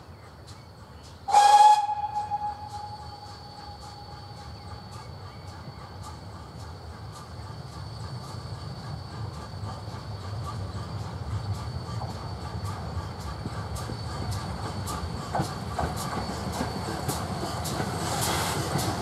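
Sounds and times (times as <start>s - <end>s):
steam locomotive rhythmic beat: 0.0s - 19.0s.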